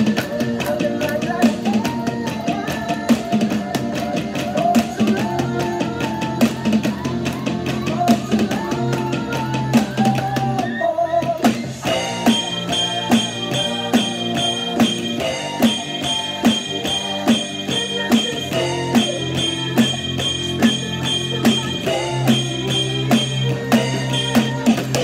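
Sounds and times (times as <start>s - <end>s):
music with guitar and bass: 0.0s - 10.8s, 11.4s - 25.0s.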